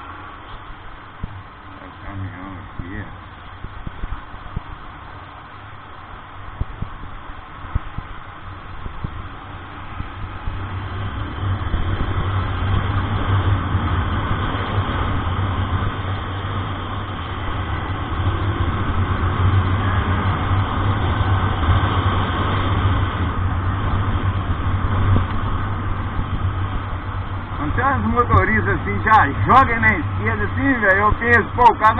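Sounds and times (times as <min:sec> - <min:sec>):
road noise hiss: 0:00.0 - 0:31.9
truck engine hum: 0:00.0 - 0:31.9.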